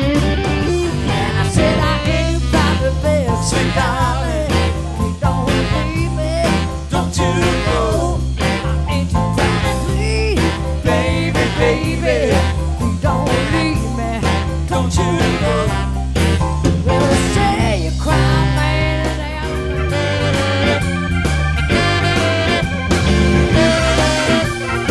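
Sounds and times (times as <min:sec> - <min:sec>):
drums and bass beat: 0:00.0 - 0:24.9
lead line with bending notes: 0:00.0 - 0:24.9.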